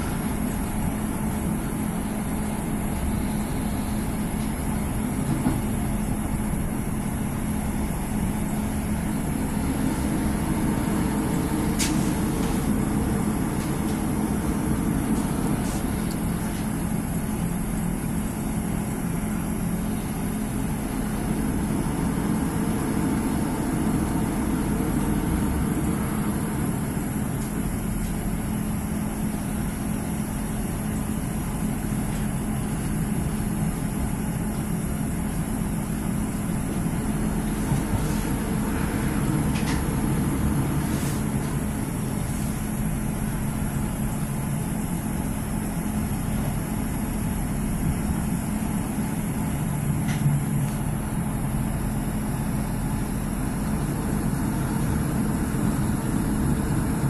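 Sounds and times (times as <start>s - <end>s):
diesel engine hum: 0.0s - 57.0s
train wheels rumbling on rails: 0.0s - 57.0s.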